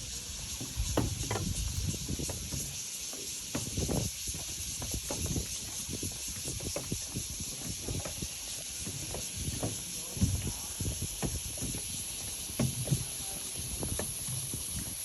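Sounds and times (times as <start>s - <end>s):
footsteps on forest trail: 0.0s - 15.0s
steady high hiss: 0.0s - 15.0s.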